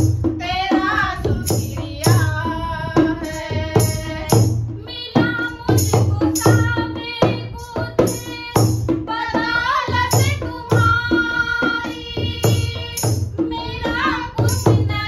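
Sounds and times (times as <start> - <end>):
hand drum beating: 0.0 - 15.0
women singing devotional song: 0.0 - 15.0.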